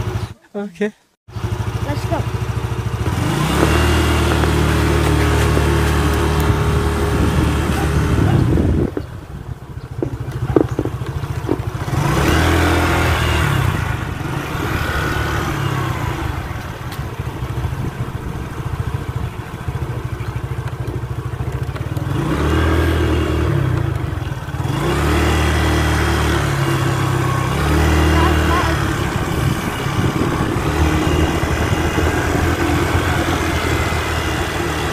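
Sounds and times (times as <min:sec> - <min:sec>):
motor scooter engine revving: 0:01.3 - 0:34.9.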